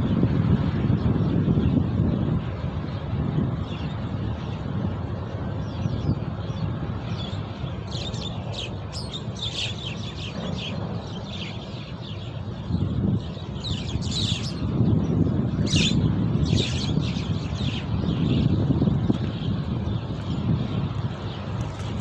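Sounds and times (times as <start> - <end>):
wind rumble on microphone: 0.0 - 22.0
birds chirping: 2.8 - 22.0.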